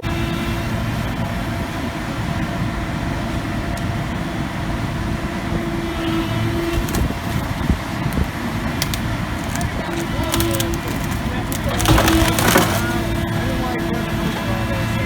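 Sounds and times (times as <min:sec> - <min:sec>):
mechanical running noise: 0:00.0 - 0:15.0
steady low hum: 0:00.0 - 0:15.0.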